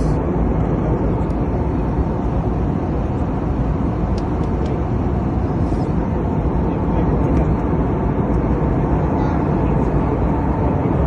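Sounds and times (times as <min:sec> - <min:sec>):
aeroplane cabin engine drone: 0:00.0 - 0:11.0.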